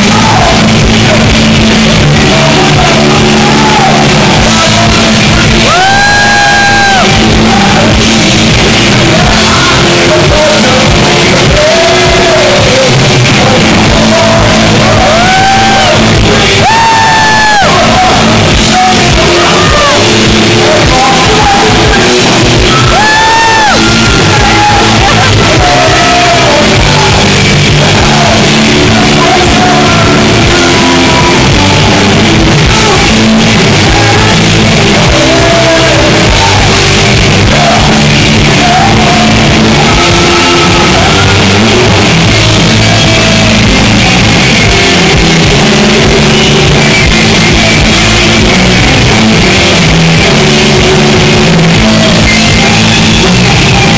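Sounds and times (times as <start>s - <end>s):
electric guitar: 0.0s - 53.9s
singer singing and shouting: 0.0s - 53.9s.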